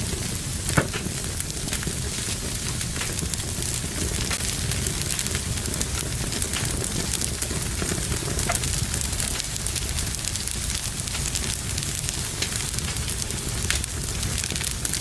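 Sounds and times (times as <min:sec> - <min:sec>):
fire crackling in fireplace: 0:00.0 - 0:15.0.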